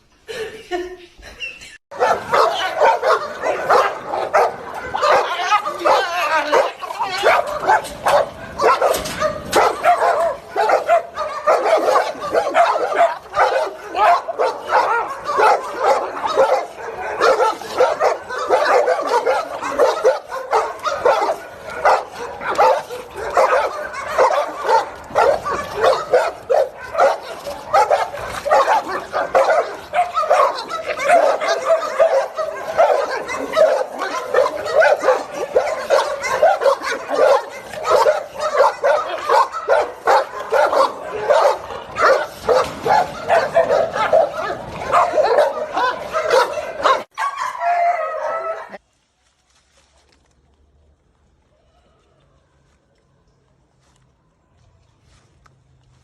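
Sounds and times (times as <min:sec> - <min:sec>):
dog barking and yipping: 0:01.9 - 0:48.8.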